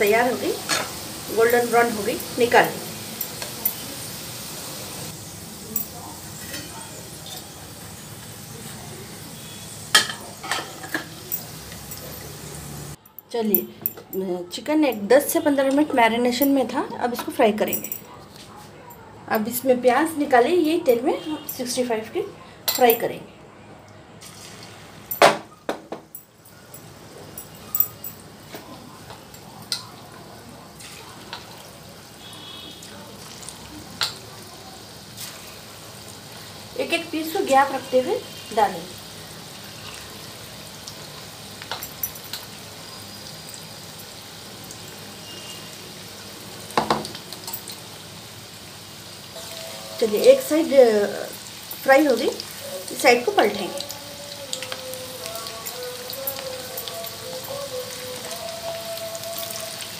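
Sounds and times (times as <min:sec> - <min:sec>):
oil sizzling: 0:00.0 - 0:13.0, 0:24.2 - 0:59.9.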